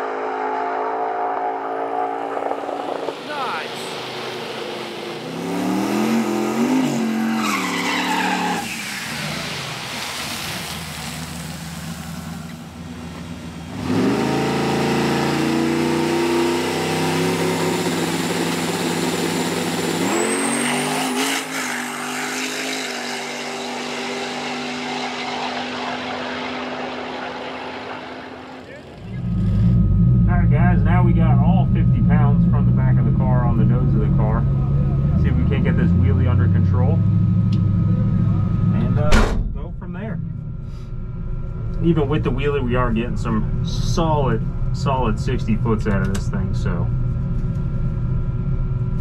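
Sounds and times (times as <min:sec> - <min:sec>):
drag racing car engine revving: 0:00.0 - 0:09.6, 0:11.8 - 0:46.8.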